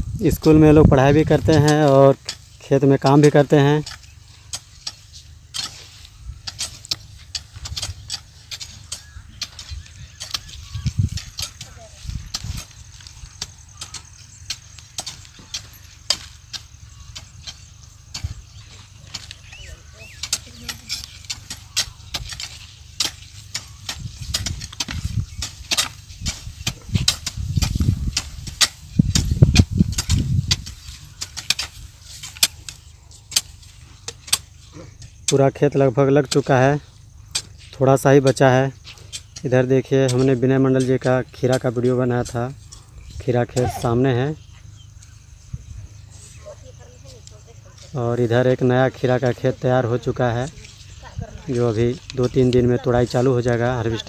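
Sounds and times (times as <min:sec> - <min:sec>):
hoes chopping dry soil: 0:00.1 - 0:54.0.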